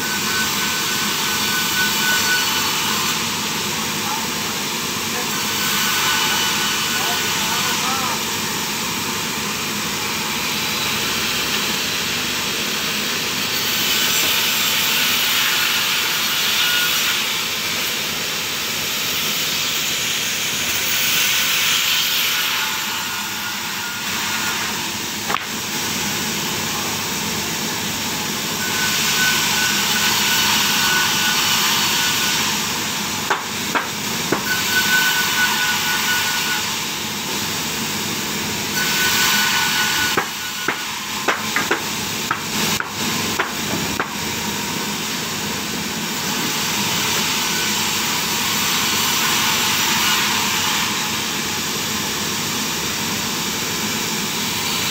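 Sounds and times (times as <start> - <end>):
sawmill saw cutting timber: 0.0 - 54.9.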